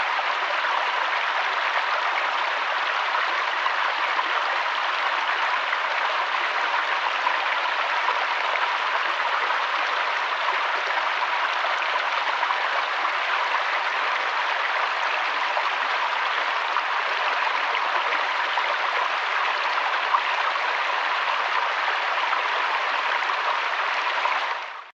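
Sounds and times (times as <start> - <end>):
river water flowing: 0.0 - 24.9.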